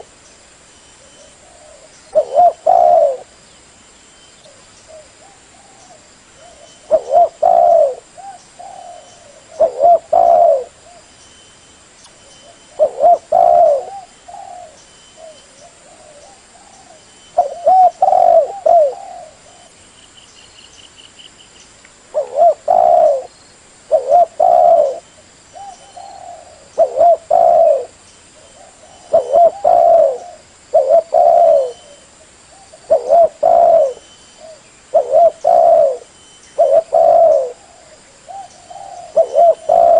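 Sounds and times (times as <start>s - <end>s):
dove cooing: 1.0s - 3.3s, 4.5s - 11.1s, 12.4s - 19.8s, 22.1s - 23.3s, 23.9s - 39.9s.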